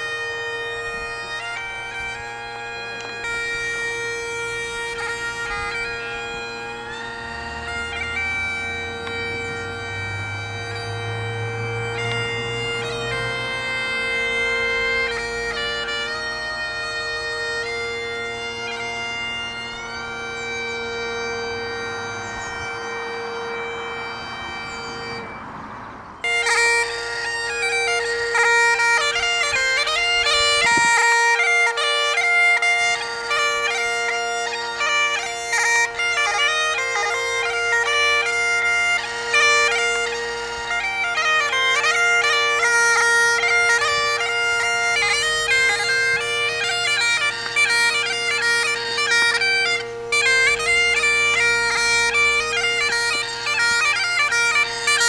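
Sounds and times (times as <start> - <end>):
bagpipes playing: 0.0 - 55.0.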